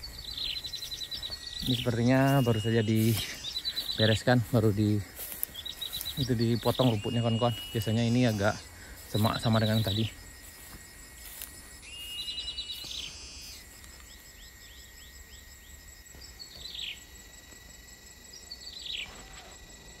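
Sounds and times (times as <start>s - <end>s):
small birds chirping: 0.0s - 17.2s, 18.2s - 19.9s
high insect drone: 0.0s - 20.0s.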